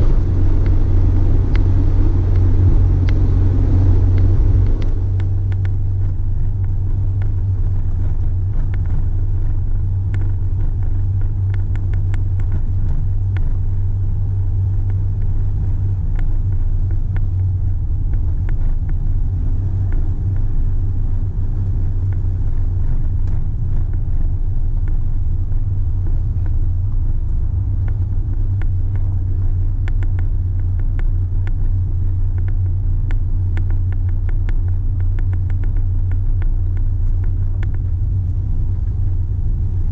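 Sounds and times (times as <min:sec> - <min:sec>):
engine and tyre rumble: 0:00.0 - 0:39.9
light clicks and rattles: 0:00.0 - 0:39.9.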